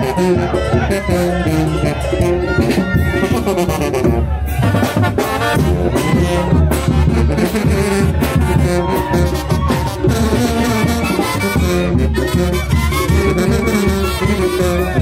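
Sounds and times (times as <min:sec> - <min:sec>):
brass band playing festive tune: 0:00.0 - 0:15.0
steady drum beat: 0:00.0 - 0:15.0.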